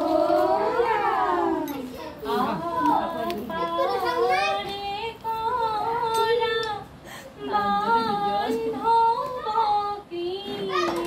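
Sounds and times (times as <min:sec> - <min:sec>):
women singing unaccompanied: 0:00.0 - 0:11.0.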